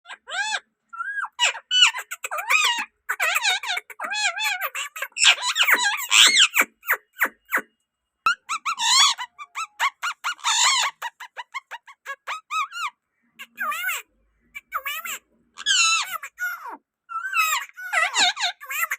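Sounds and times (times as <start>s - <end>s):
parakeet shrill chirps: 0.1s - 18.9s.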